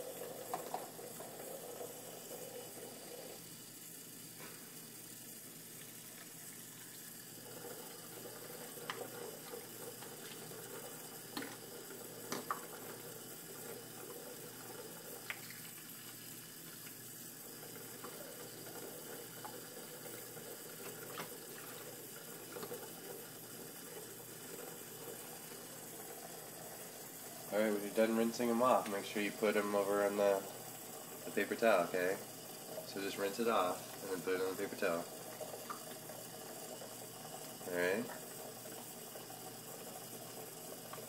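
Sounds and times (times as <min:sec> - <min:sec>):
faucet stream into water: 0:00.0 - 0:41.0.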